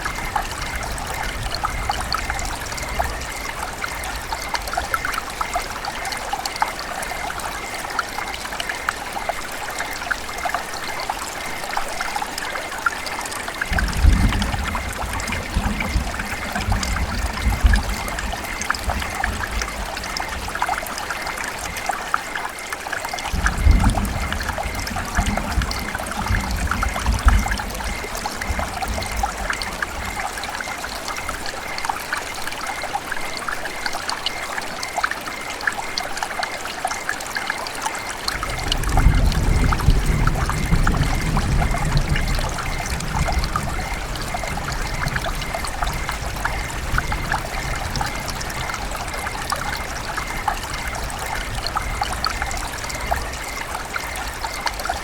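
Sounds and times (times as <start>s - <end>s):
river water trickling: 0.0s - 55.0s.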